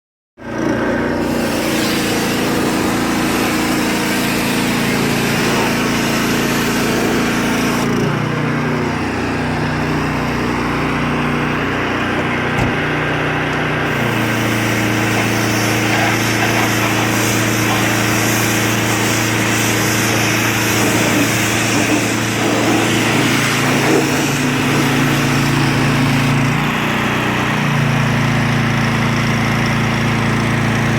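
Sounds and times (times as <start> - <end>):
pressure washer petrol engine running: 0.4 - 30.9.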